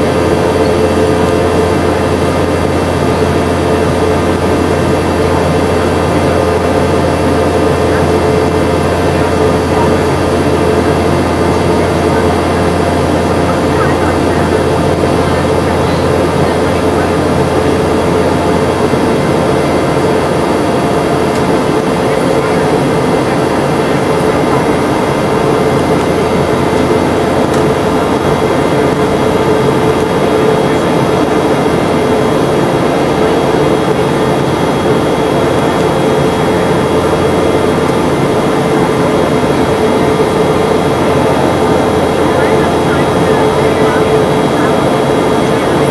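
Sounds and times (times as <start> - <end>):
jet engine drone: 0.0 - 45.9.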